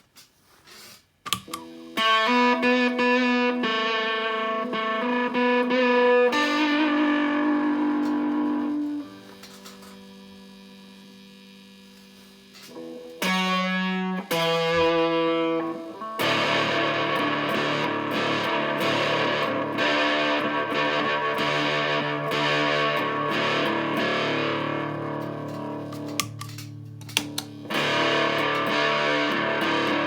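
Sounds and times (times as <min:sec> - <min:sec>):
fuzzed electric guitar: 0:01.3 - 0:30.0.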